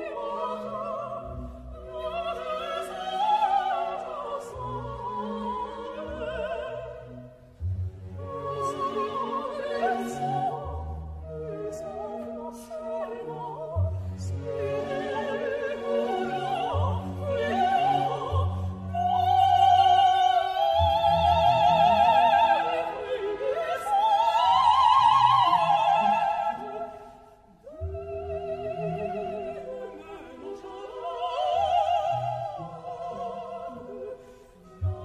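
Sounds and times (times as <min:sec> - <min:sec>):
orchestral accompaniment: 0:00.0 - 0:35.0.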